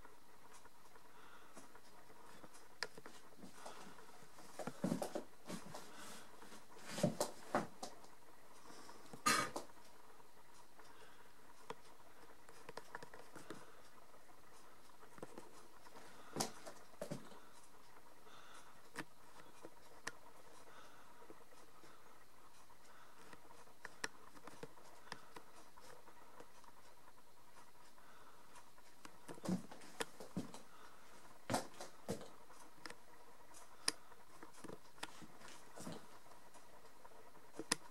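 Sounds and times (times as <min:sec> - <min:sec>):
faint clicks and taps: 0:00.0 - 0:37.9.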